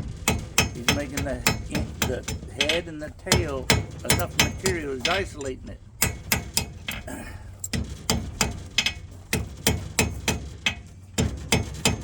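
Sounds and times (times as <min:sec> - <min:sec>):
hammer striking metal on anvil: 0:00.2 - 0:07.0, 0:07.6 - 0:12.0.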